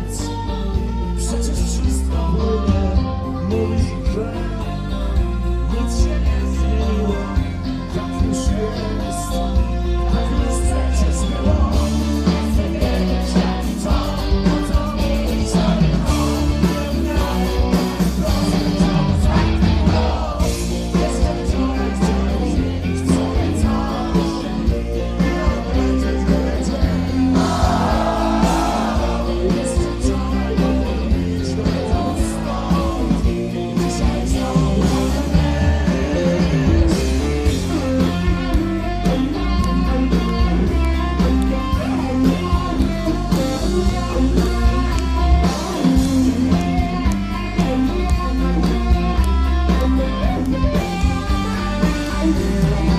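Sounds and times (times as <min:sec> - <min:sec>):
bass guitar: 0:00.0 - 0:52.9
drums: 0:00.0 - 0:52.9
electric guitar: 0:00.0 - 0:52.9
male lead vocals: 0:00.0 - 0:52.9.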